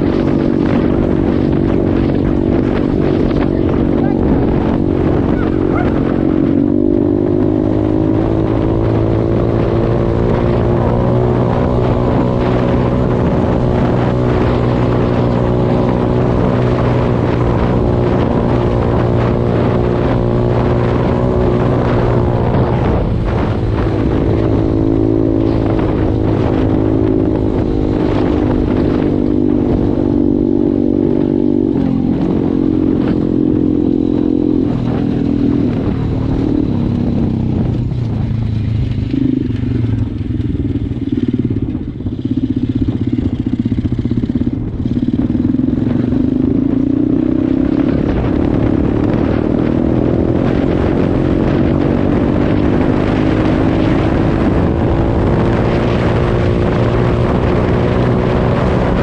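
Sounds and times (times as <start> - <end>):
motorbike engine at high revs: 0.0 - 59.0
wind rumbling on microphone: 0.0 - 59.0.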